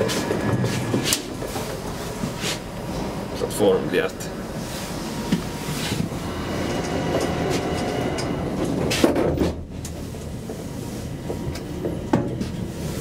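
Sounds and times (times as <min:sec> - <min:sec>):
elevator car humming: 0:00.0 - 0:13.0.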